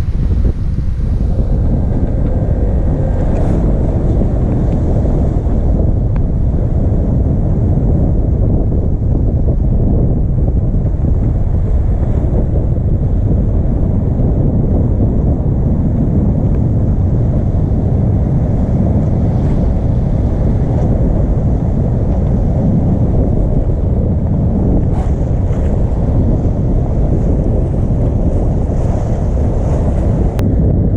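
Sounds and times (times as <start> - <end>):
sea rushing past hull: 0.0 - 30.9
wind buffeting microphone: 0.0 - 30.9.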